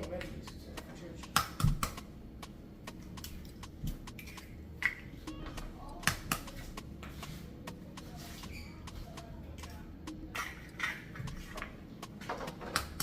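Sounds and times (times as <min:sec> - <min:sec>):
distant voices: 0:00.0 - 0:13.0
faint music: 0:00.0 - 0:13.0.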